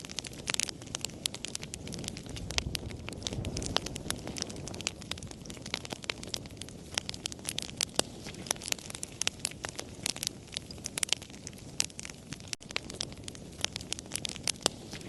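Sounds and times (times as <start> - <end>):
campfire pops and snaps: 0.0 - 15.0
low rush of flames: 0.0 - 15.0.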